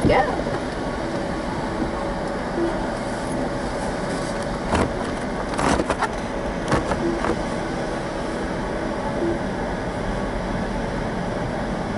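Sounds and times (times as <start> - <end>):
car engine rumble inside cabin: 0.0 - 11.9.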